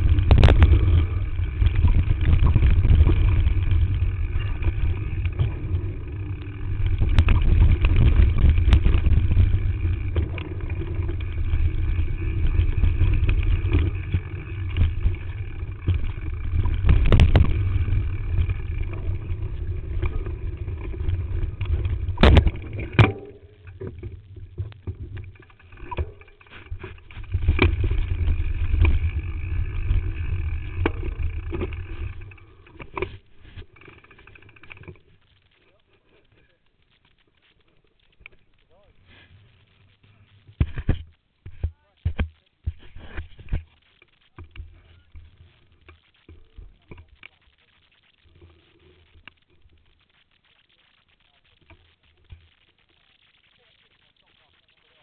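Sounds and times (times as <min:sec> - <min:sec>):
bike rattling and rumbling: 0:00.0 - 0:53.4.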